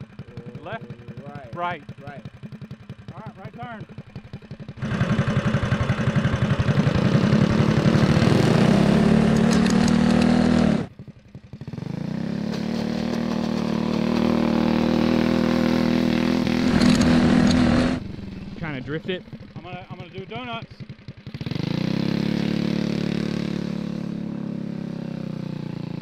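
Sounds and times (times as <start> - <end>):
go-kart engine revving: 0.0 - 26.0.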